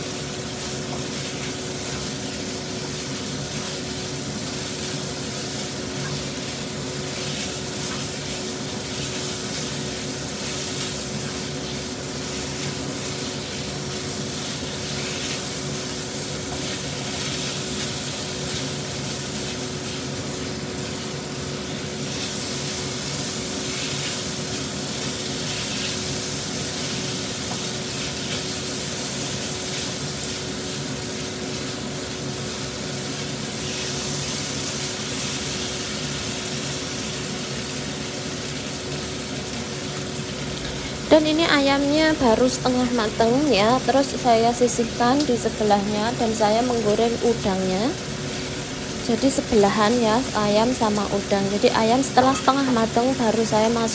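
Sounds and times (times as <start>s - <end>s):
chicken sizzling in hot oil: 0.0s - 53.9s
spatula turning food in pan: 0.0s - 53.9s.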